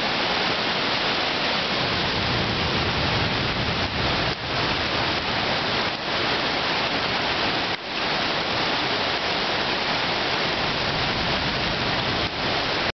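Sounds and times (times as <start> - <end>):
floodwater rushing: 0.0 - 12.9
torrential rain: 0.0 - 13.0.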